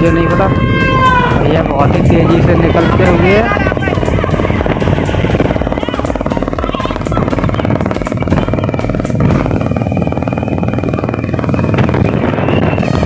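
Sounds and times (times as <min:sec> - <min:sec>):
road noise: 0:00.0 - 0:13.0
scooter engine running: 0:00.0 - 0:13.0.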